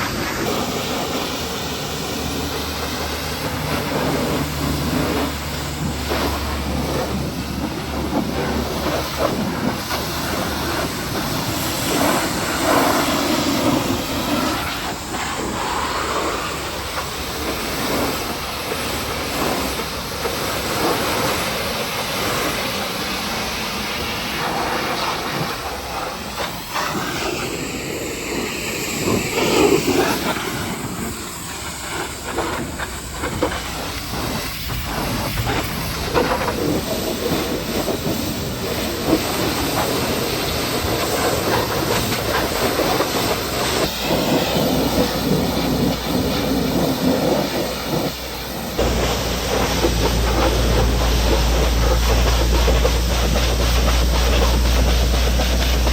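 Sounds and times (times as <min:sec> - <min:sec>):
pressure washer spray hissing: 0:00.0 - 0:55.9.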